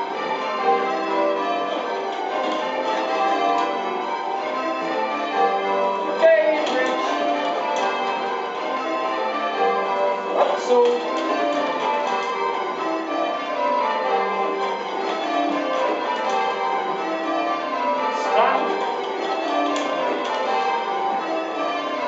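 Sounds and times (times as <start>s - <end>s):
church bells ringing changes: 0.0s - 22.0s.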